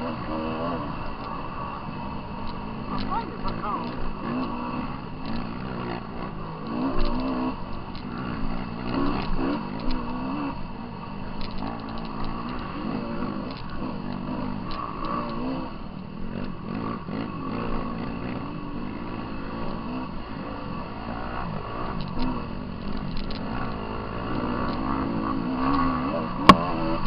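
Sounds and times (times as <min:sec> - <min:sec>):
dirt bike engines revving: 0:00.0 - 0:27.0
light ticks and rattles: 0:00.0 - 0:27.0.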